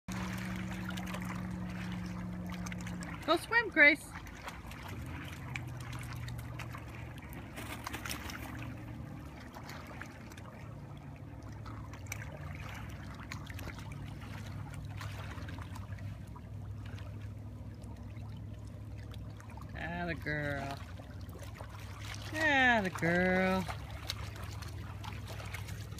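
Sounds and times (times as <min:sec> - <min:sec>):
steady low rumble: 0:00.1 - 0:25.9
water lapping against rocks: 0:00.1 - 0:25.9.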